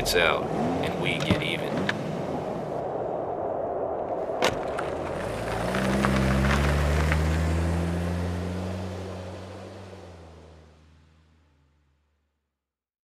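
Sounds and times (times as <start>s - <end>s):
car engine driving off: 0.0s - 2.8s, 4.4s - 12.1s.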